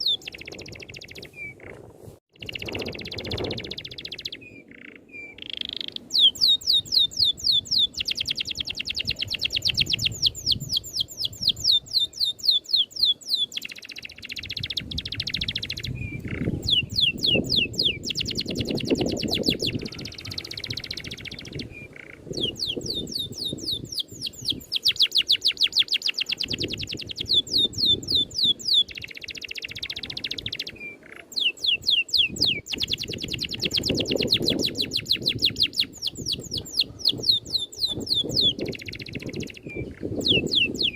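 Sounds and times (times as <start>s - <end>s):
songbird trilling: 0.0s - 1.8s, 2.4s - 40.9s.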